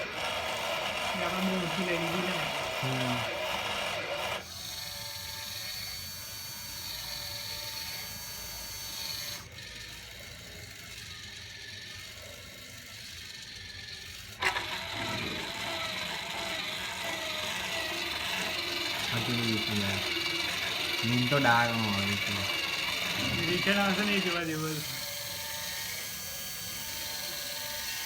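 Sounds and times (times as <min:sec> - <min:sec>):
drilling machine motors whining: 0:00.0 - 0:28.0.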